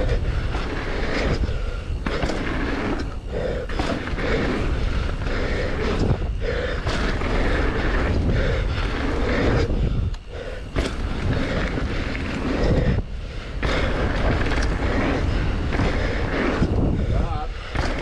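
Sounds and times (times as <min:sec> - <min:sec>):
bike tyres rolling on dirt: 0:00.0 - 0:18.0
wind rushing over microphone: 0:00.0 - 0:18.0.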